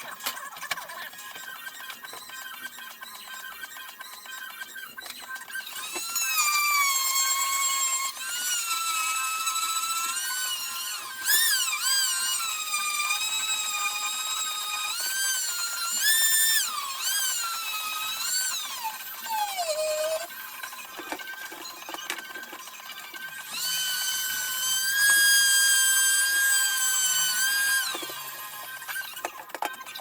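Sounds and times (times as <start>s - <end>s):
small power tool whining: 0.0s - 30.0s.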